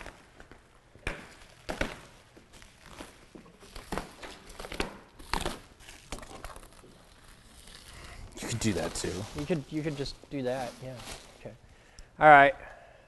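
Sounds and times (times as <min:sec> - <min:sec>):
plastic wrap crinkling: 0:00.0 - 0:11.6.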